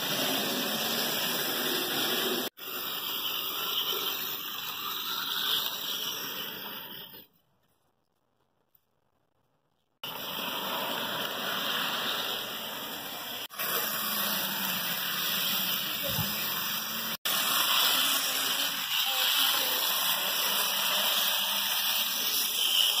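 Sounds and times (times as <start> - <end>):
model train motor whirring: 0.0 - 7.3, 10.0 - 23.0.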